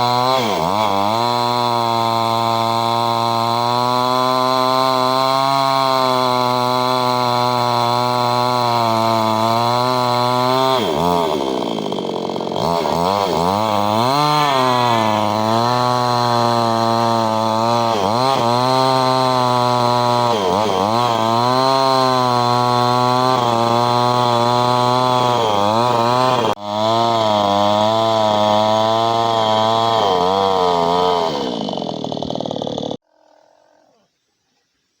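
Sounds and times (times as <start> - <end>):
chainsaw engine revving: 0.0 - 33.1.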